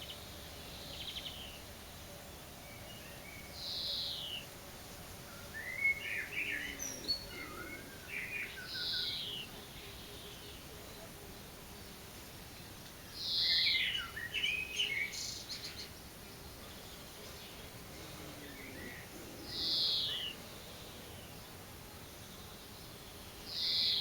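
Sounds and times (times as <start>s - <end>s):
songbird singing: 0.0s - 4.6s, 5.2s - 24.0s.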